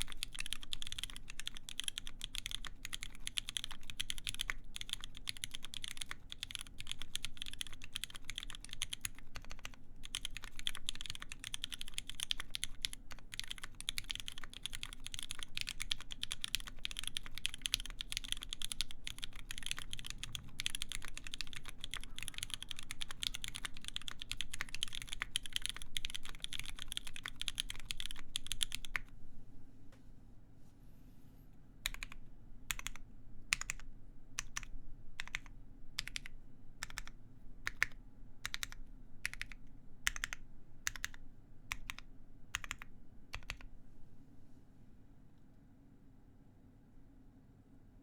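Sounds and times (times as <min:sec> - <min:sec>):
mechanical keyboard typing: 0:00.0 - 0:29.1, 0:31.8 - 0:43.7.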